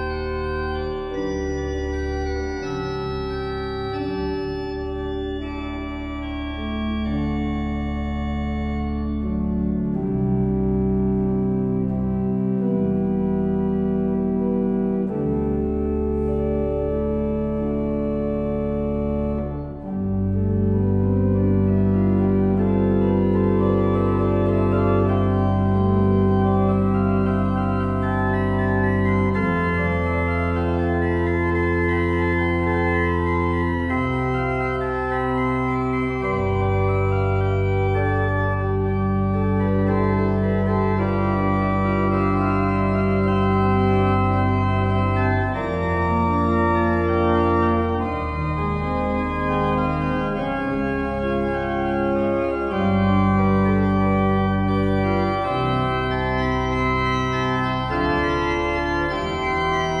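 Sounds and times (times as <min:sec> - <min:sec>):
pipe organ playing chords: 0:00.0 - 1:00.0.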